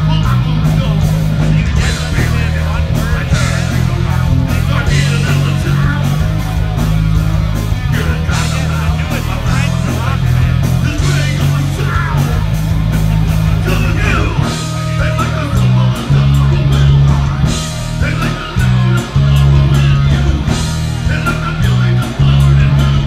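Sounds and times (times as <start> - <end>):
bass line: 0.0 - 23.0
rock band playing: 0.0 - 23.0
steady drum beat: 0.0 - 23.0.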